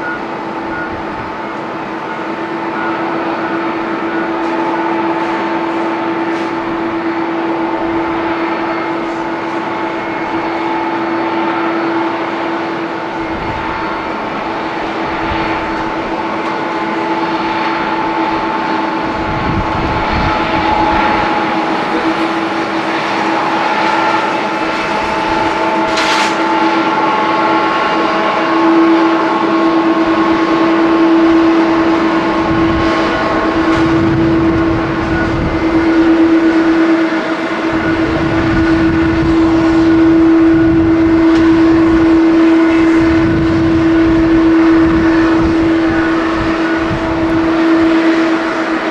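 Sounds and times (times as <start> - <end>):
jet engines whining: 0.0 - 48.9.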